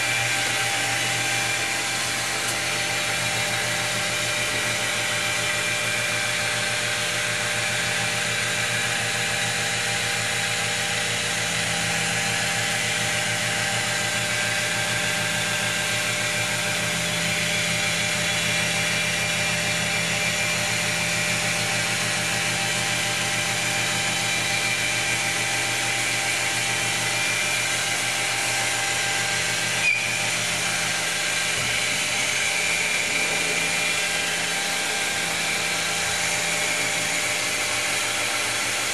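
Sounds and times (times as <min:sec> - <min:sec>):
stone polisher motor whine: 0:00.0 - 0:38.9.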